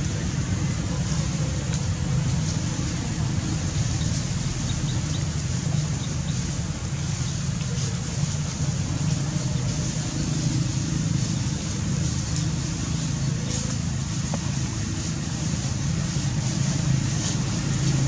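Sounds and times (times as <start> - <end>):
hiss: 0.0 - 18.0
low outdoor rumble: 0.0 - 18.0.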